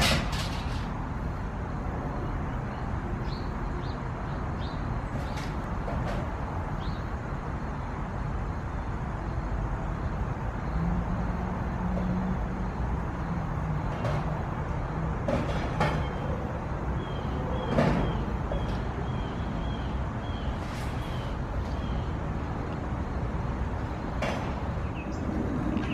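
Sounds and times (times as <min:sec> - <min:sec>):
distant traffic rumble: 0:00.0 - 0:25.9.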